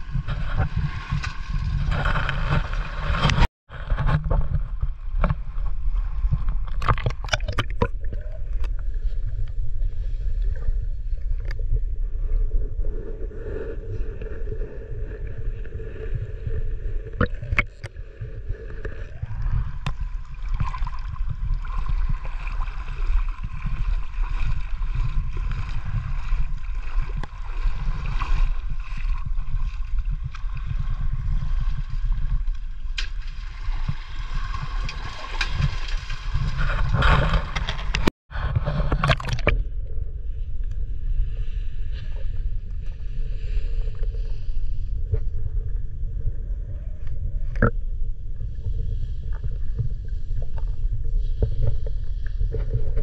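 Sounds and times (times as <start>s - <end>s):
sea water gurgling and sloshing: 0.0s - 53.0s.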